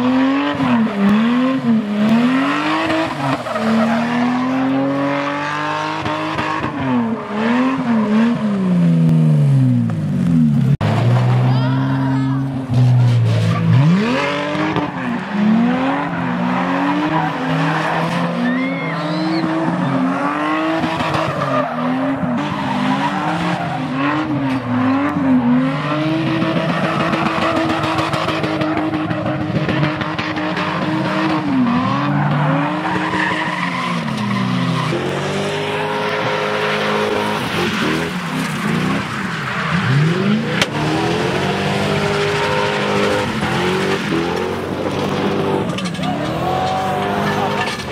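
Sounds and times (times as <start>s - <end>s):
tyres squealing on asphalt: 0.0s - 8.8s, 10.8s - 47.9s
car engines revving: 0.0s - 47.9s.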